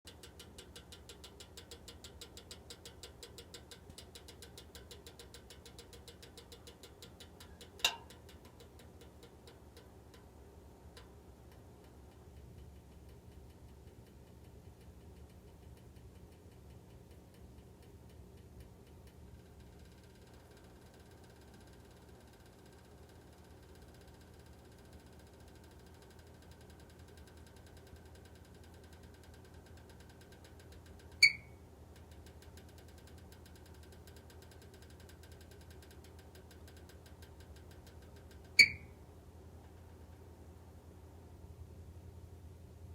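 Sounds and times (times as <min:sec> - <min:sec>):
electric heater ticking: 0:00.1 - 0:40.9.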